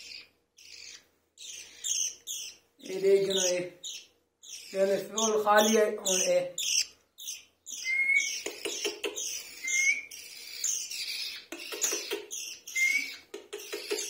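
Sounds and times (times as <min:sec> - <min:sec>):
baby birds cheeping: 0:00.0 - 0:14.0.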